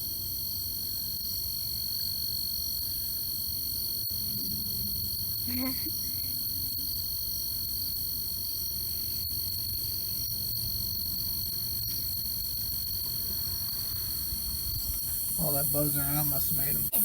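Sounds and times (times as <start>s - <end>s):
crickets and katydids droning: 0.0s - 17.0s.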